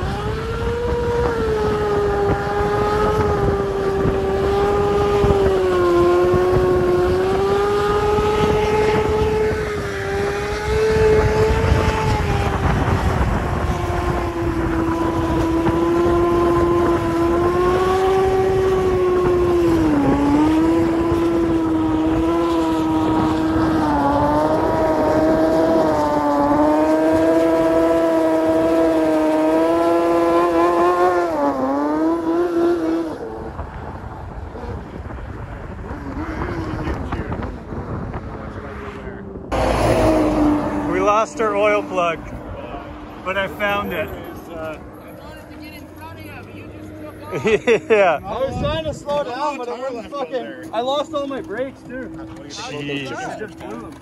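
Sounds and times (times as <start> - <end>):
motorcycle engine at high revs: 0.0 - 45.0.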